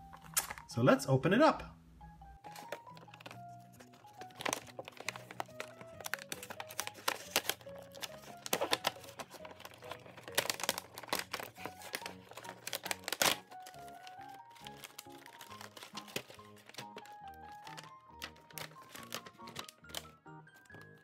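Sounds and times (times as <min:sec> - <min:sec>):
plastic packaging crinkling: 0:00.0 - 0:00.7, 0:02.4 - 0:21.0
background music: 0:00.0 - 0:21.0.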